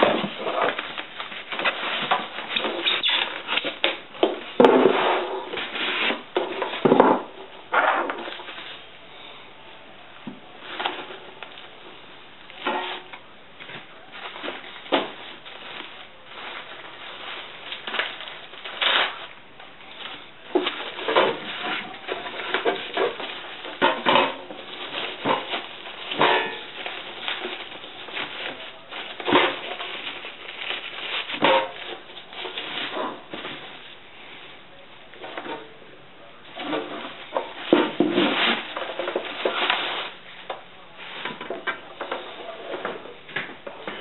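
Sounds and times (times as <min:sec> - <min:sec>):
bubble wrap crinkling: 0:00.0 - 0:09.2, 0:10.5 - 0:35.8, 0:36.4 - 0:44.0.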